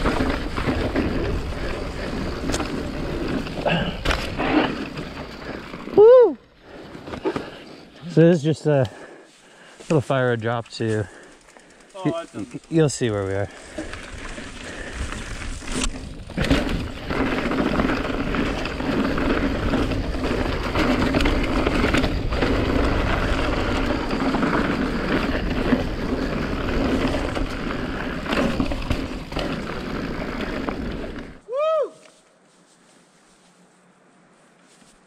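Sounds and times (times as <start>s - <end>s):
bike tyres on loose dirt: 0.0s - 35.0s.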